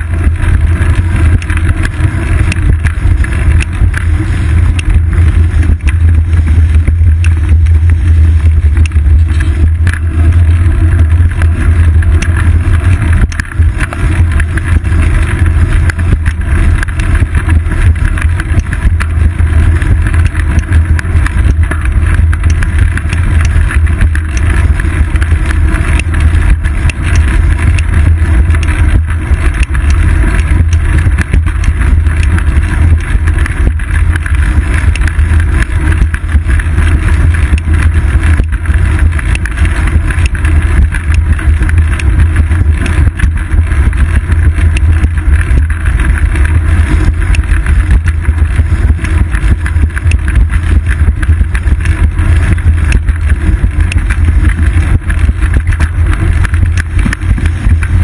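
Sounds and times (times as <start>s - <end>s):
ride vibration rumble: 0.0s - 58.0s
wind buffeting microphone: 0.0s - 58.0s.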